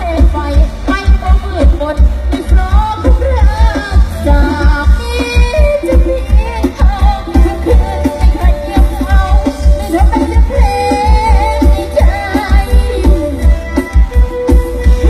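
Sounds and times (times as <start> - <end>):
folk-pop song over loudspeakers: 0.0 - 15.0.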